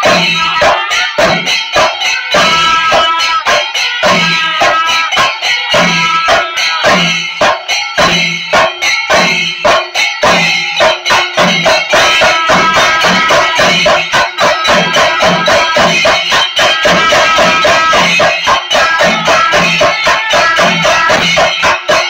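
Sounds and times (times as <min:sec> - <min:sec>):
drums played fast with sticks: 0:00.0 - 0:22.0.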